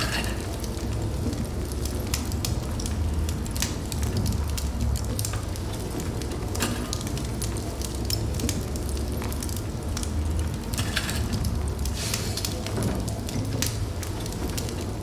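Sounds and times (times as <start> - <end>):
burning logs crackling and popping: 0.0 - 15.0
fire flame rumble: 0.0 - 15.0.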